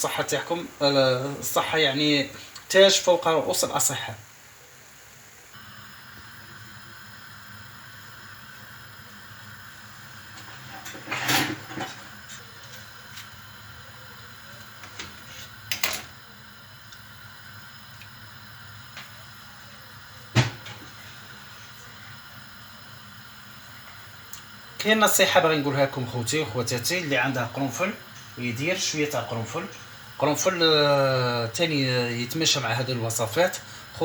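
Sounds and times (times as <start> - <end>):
pot simmering with low hiss: 0.0 - 34.0.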